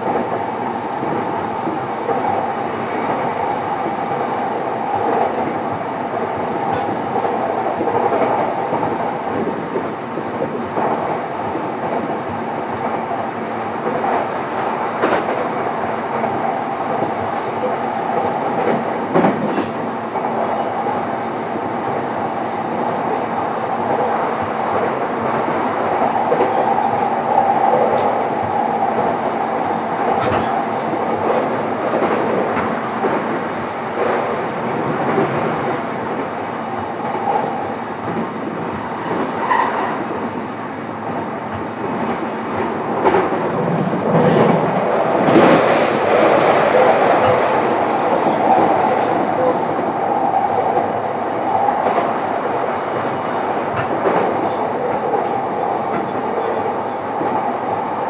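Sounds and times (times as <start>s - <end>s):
train motors and wheels humming: 0.0s - 58.0s.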